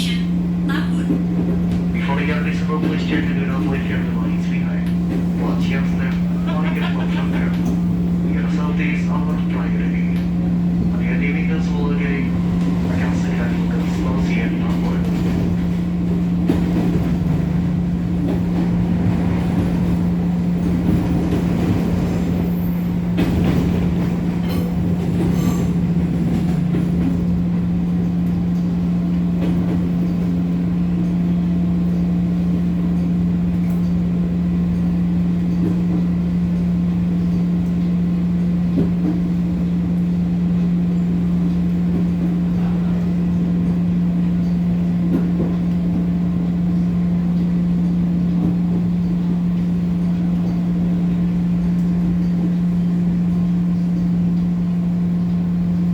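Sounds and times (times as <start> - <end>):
train motor hum: 0.0 - 55.9.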